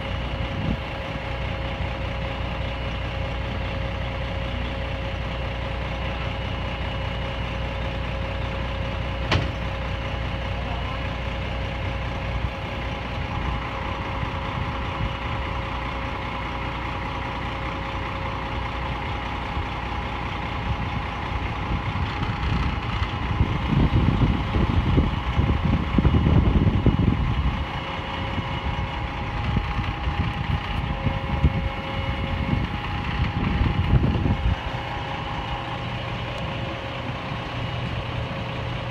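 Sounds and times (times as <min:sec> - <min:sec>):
loud rumbling: 0:00.0 - 0:38.9
truck engine running: 0:00.0 - 0:38.9.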